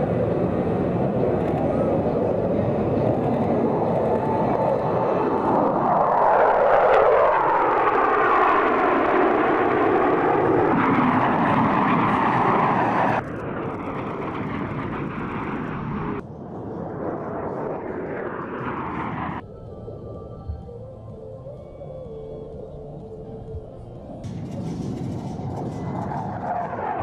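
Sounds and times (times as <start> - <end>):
fighter jets flying past: 0.0 - 19.4, 24.2 - 27.0.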